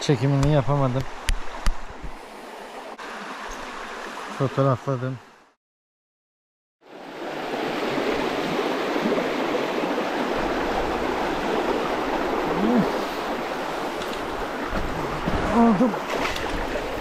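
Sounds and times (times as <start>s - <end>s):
stream running: 0.0s - 5.6s, 6.8s - 17.0s.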